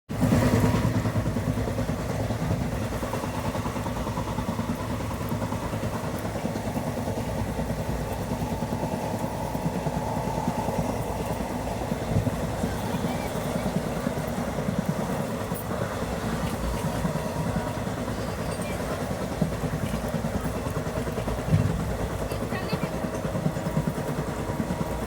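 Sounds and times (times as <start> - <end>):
train rumbling and rattling: 0.2 - 25.0.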